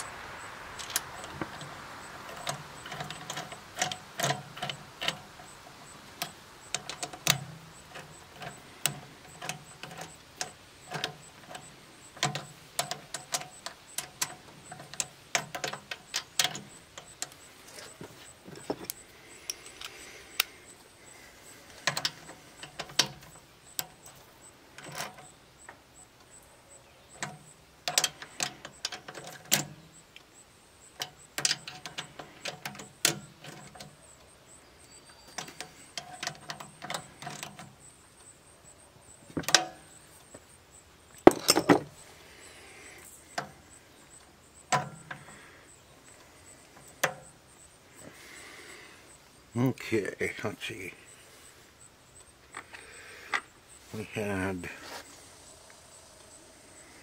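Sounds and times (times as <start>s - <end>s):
hand tools and metal parts clicking: 0.0s - 38.3s, 39.2s - 40.4s, 41.1s - 51.1s, 52.1s - 57.0s.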